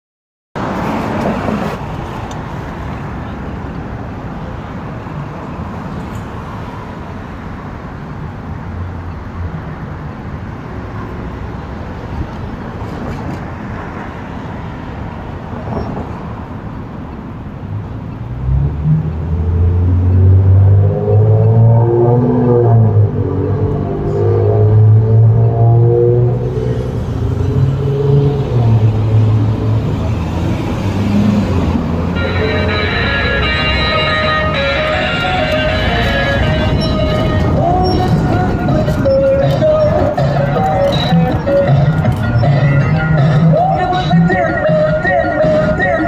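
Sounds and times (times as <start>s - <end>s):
cars passing on street: 0.6s - 46.0s.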